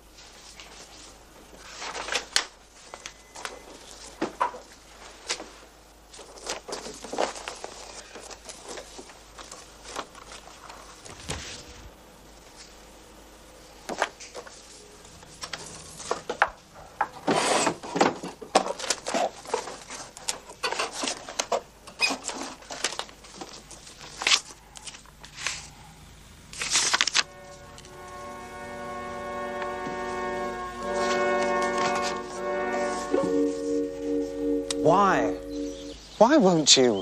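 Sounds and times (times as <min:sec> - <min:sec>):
papers rustling: 0:00.1 - 0:12.8, 0:13.9 - 0:25.7, 0:26.5 - 0:27.9, 0:29.5 - 0:33.8.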